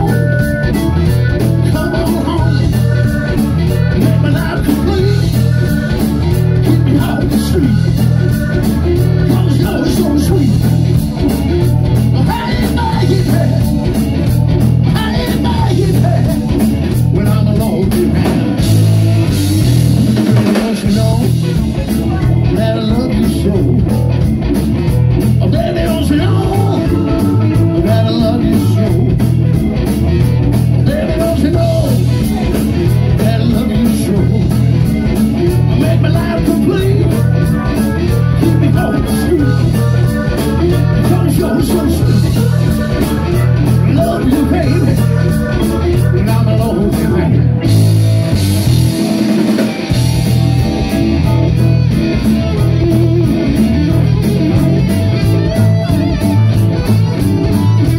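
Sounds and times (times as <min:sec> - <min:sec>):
drums: 0:00.0 - 0:57.9
electric guitar: 0:00.0 - 0:57.9
electric keyboard: 0:00.0 - 0:57.9
pulsing bass line: 0:00.0 - 0:57.9.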